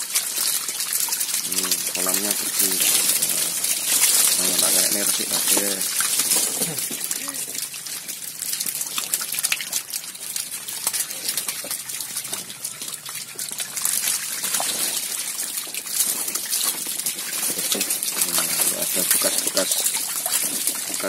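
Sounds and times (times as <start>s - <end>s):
fish splashing in shallow water: 0.0s - 21.0s.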